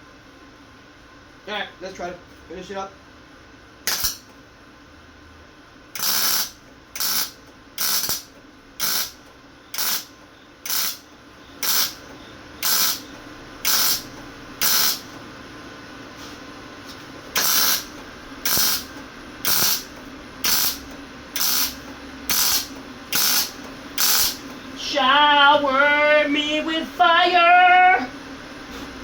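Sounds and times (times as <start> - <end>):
welder arc crackling and hissing: 3.8 - 4.4, 5.7 - 29.0.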